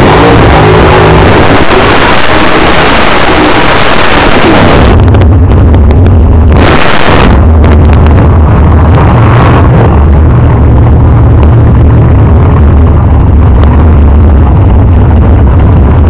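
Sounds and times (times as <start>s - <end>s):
drag engine revving: 0.0s - 16.0s.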